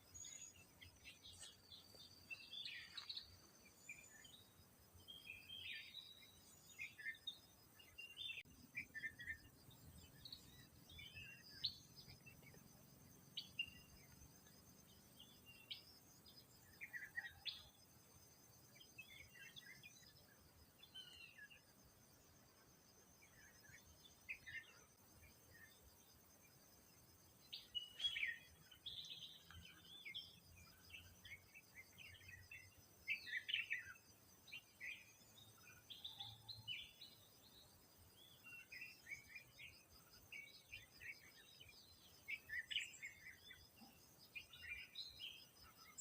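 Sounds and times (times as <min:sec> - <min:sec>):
wild birds chirping: 0:00.0 - 0:46.0.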